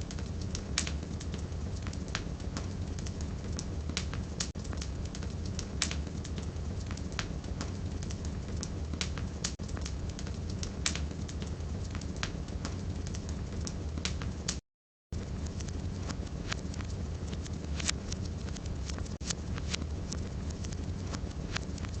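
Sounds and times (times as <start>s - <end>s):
fire crackling and popping: 0.0s - 14.6s, 15.2s - 22.0s
fire rumble and hiss: 0.0s - 14.6s, 15.2s - 22.0s.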